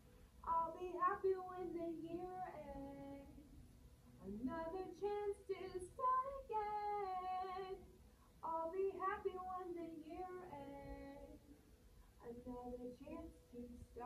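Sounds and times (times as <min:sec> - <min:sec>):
woman singing unaccompanied: 0:00.4 - 0:03.6, 0:04.2 - 0:11.5, 0:12.2 - 0:14.0.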